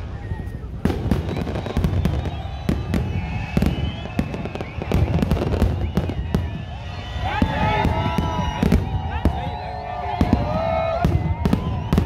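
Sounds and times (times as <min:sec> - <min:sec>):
fireworks bangs and crackles: 0:00.0 - 0:12.0
high whistling fireworks: 0:00.0 - 0:12.0.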